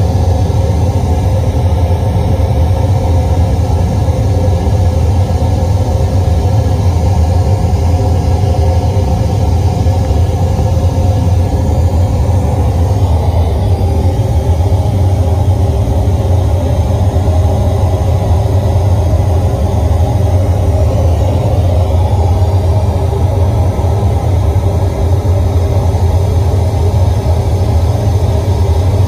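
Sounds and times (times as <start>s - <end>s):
deep bass rumble from subwoofers: 0.0s - 29.0s.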